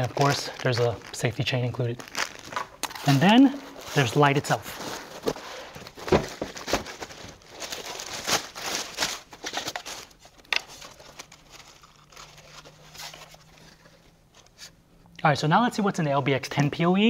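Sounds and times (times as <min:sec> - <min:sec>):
plastic bag crinkling: 0:00.0 - 0:14.1.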